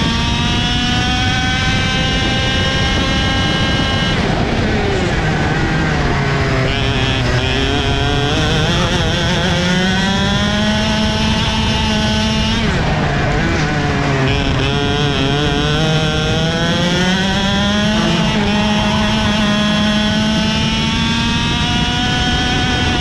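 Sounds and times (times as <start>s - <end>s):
kart engine revving: 0.0s - 23.0s
other kart engines nearby: 0.0s - 23.0s.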